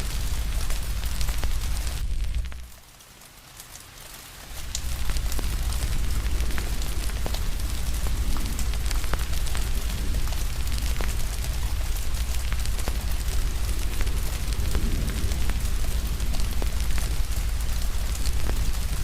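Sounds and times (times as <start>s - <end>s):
fire crackling: 0.0s - 19.0s
steady rain: 0.0s - 19.0s.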